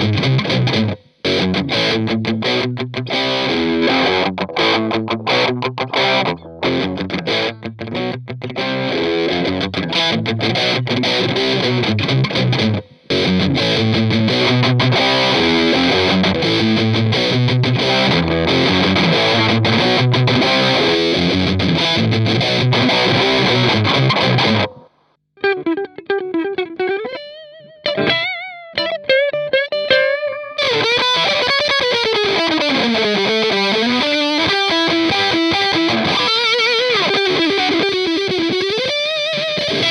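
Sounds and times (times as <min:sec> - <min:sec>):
distorted electric guitar riff: 0:00.0 - 0:39.9
electric guitar lead lines: 0:00.0 - 0:39.9.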